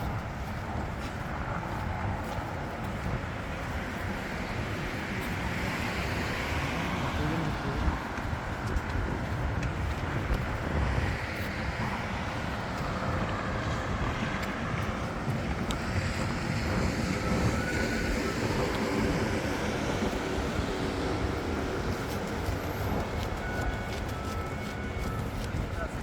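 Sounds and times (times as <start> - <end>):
traffic rumble: 0.0 - 26.0
wind on microphone: 0.0 - 26.0.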